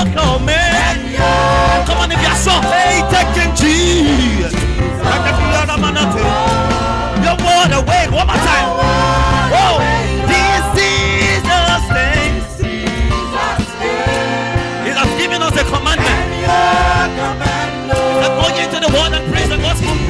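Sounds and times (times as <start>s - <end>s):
band with bass and drums: 0.0s - 20.0s
choir and lead voice singing: 0.0s - 20.0s.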